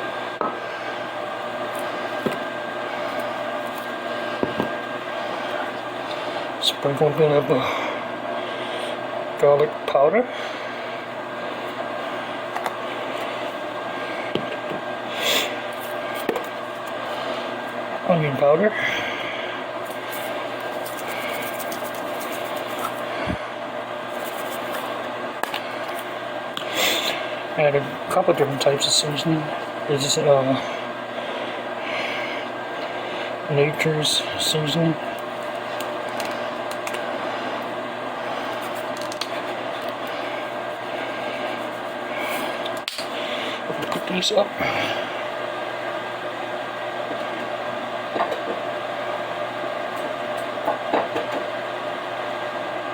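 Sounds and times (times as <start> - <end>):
microwave oven humming: 0.0 - 52.9.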